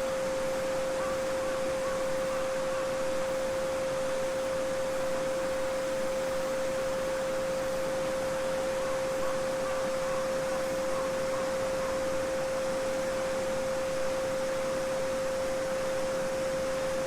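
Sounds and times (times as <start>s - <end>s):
steady sine tone: 0.0s - 17.0s.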